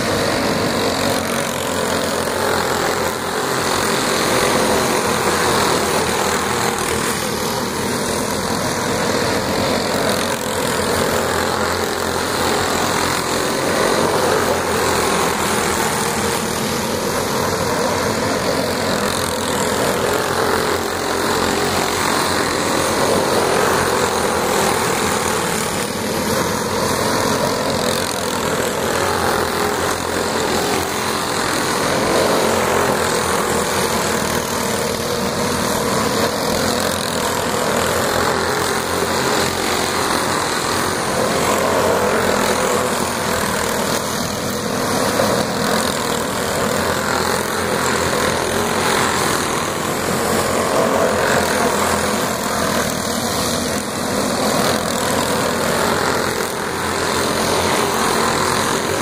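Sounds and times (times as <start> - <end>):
go-kart engines droning: 0.0 - 59.0.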